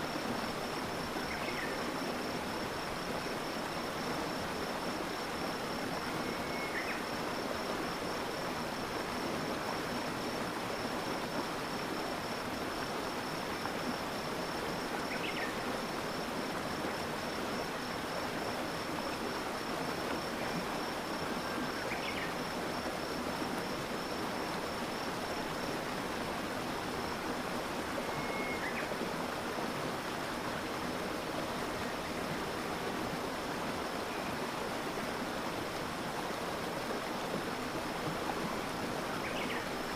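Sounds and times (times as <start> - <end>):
stream water flowing and splashing: 0.0 - 39.9.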